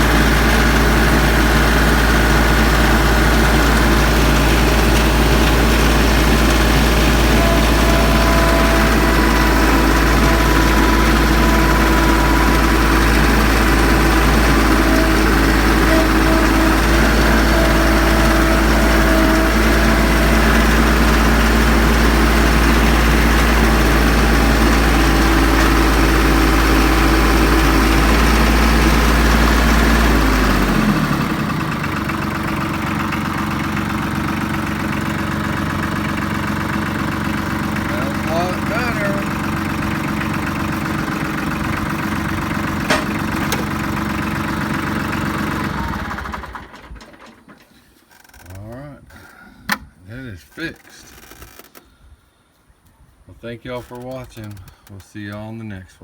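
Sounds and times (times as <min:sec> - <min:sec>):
diesel engine idling: 0:00.0 - 0:47.6.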